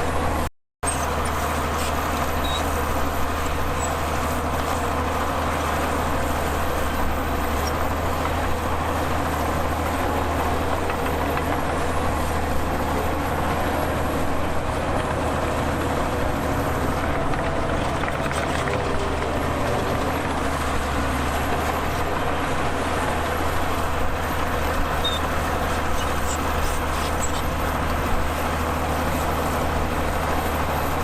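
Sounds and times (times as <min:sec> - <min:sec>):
heavy diesel machinery drone: 0:00.0 - 0:31.0.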